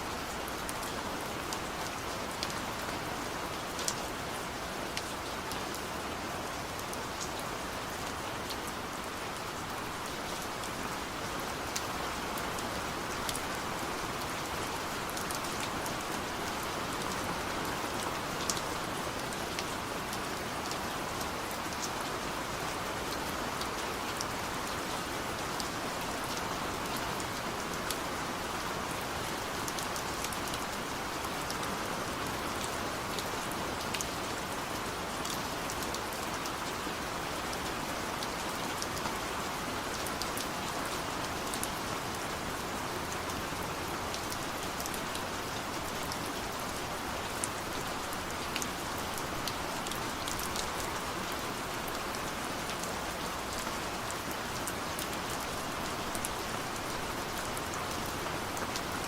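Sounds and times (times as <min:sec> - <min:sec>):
heavy rain in forest: 0:00.0 - 0:59.0
raindrops ticking nearby: 0:06.5 - 0:22.4, 0:23.1 - 0:59.0.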